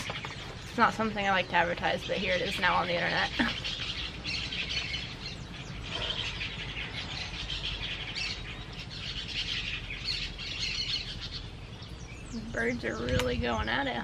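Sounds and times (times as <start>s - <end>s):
chorus of birds chirping: 0.0s - 14.0s.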